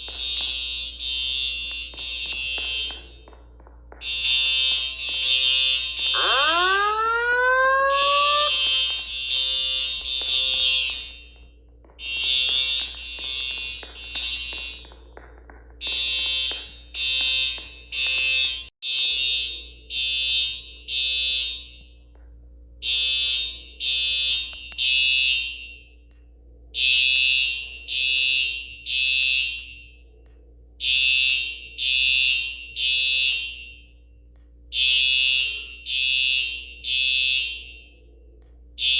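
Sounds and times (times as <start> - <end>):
fire alarm horn blasts: 0.0 - 22.2, 22.8 - 38.9.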